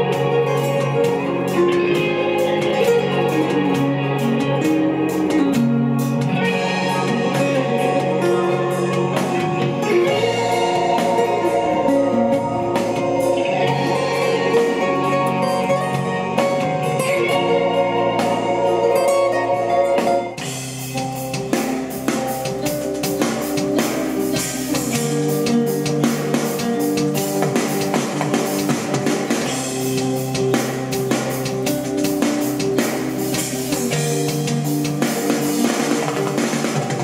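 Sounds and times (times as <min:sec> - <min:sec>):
song with organ and guitar: 0:00.0 - 0:37.0.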